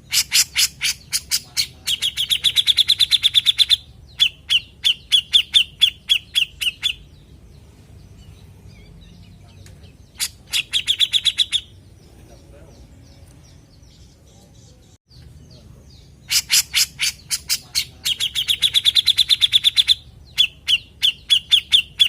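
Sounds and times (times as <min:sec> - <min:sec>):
bulbul calling in rapid notes: 0:00.0 - 0:07.3, 0:08.3 - 0:13.0, 0:15.5 - 0:22.0.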